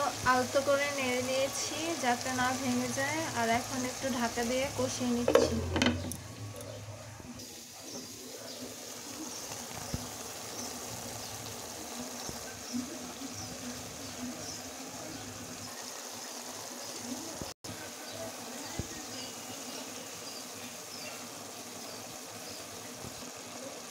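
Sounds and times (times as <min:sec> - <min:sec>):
curry sizzling and bubbling: 0:00.0 - 0:23.9.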